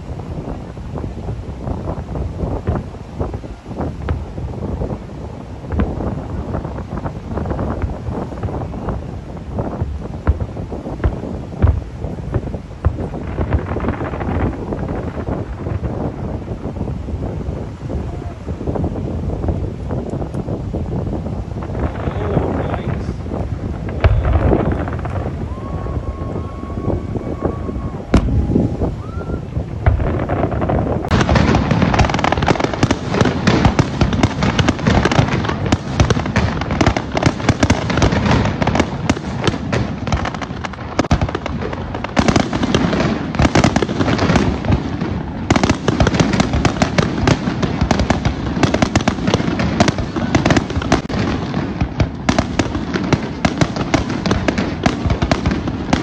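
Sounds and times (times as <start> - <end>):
aerial fireworks bursting: 0.0 - 56.0.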